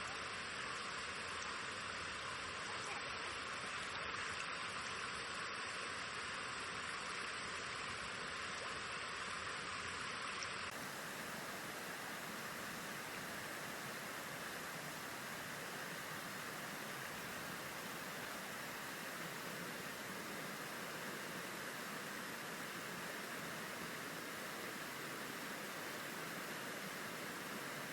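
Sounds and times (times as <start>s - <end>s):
forest stream flowing: 0.0s - 27.9s.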